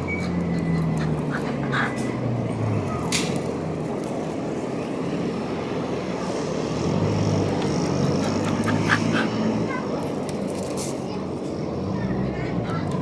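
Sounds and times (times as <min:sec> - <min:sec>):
traffic hum: 0:00.0 - 0:13.0
vehicle engine drone: 0:00.0 - 0:13.0.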